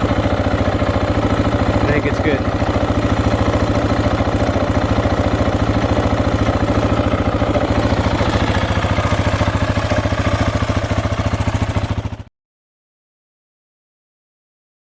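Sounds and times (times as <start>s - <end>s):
motorcycle engine idling: 0.0s - 12.3s.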